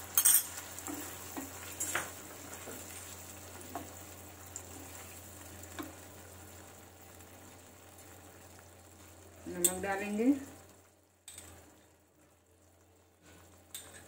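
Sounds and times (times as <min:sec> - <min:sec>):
sauce sizzling in a pan: 0:00.0 - 0:14.0.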